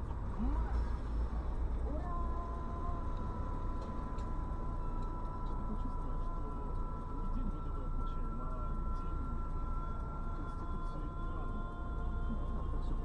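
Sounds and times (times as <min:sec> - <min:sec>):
car engine idling: 0:00.0 - 0:13.0
faint distant voices: 0:00.0 - 0:13.0
faint steady high tones: 0:00.0 - 0:13.0.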